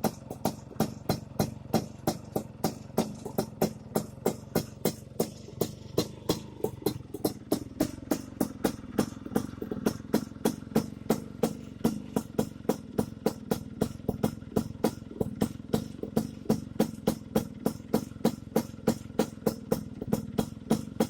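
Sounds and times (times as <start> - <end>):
scooter engine popping: 0.0 - 21.0.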